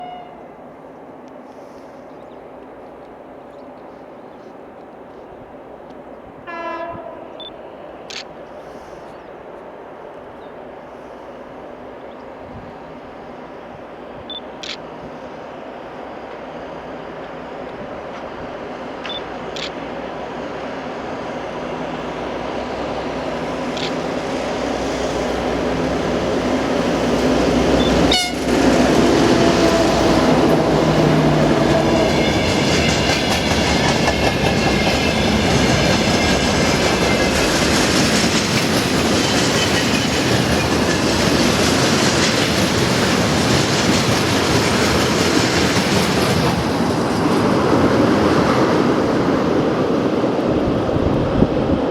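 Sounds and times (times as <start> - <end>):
diesel locomotive passing: 0.0 - 51.9.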